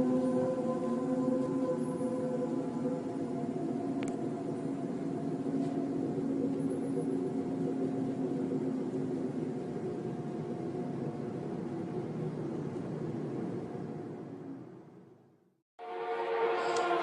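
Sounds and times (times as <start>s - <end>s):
droning hum of held tones: 0.0s - 15.2s.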